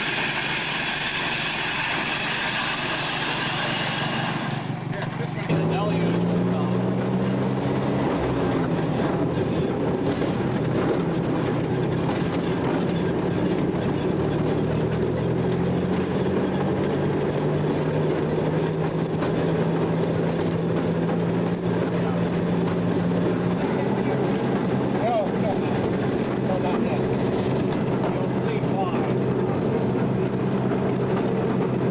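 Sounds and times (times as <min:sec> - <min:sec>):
engine drone: 0:00.0 - 0:31.9
wheels rumbling on rails: 0:00.0 - 0:31.9.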